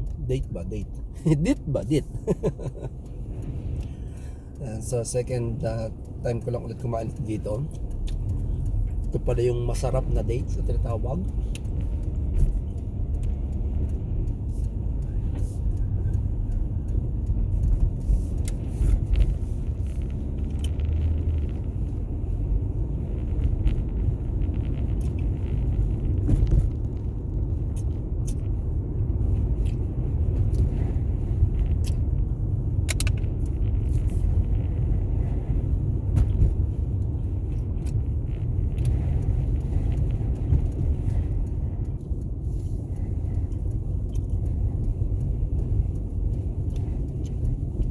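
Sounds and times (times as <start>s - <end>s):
car cabin rumble: 0.0s - 47.9s
light clicks and rattles: 0.0s - 47.9s.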